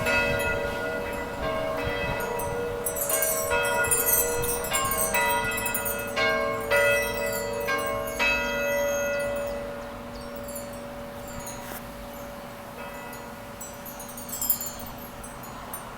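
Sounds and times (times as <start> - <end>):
church bells ringing: 0.0 - 15.9.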